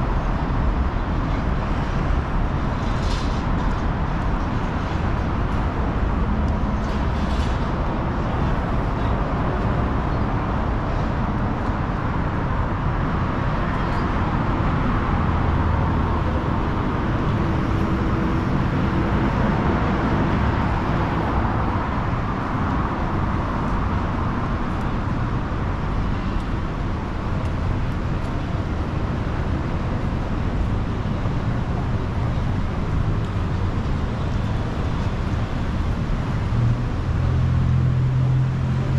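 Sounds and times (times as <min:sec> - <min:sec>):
passing road traffic: 0:00.0 - 0:38.9.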